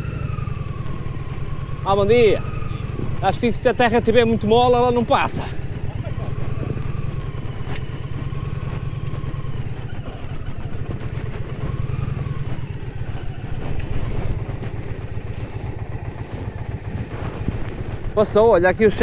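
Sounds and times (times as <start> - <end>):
motorcycle engine running slowly: 0.0 - 19.0.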